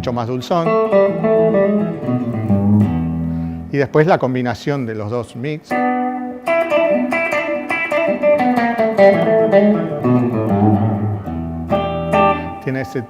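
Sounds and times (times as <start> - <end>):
twangy electric guitar notes: 0.0 - 3.7, 5.8 - 13.0.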